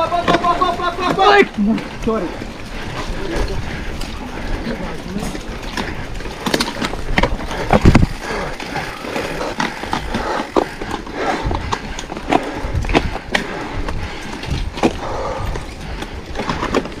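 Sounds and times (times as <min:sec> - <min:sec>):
mountain bike rattling over trail: 0:00.0 - 0:17.0.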